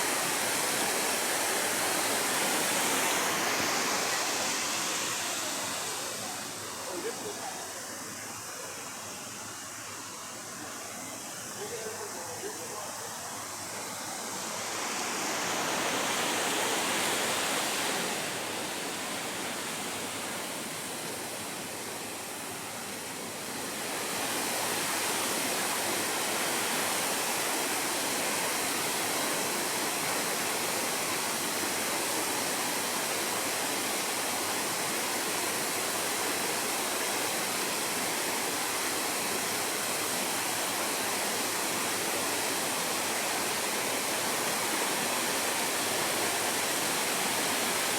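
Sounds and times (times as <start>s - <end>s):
waterfall rushing: 0.0s - 9.1s, 10.0s - 47.9s.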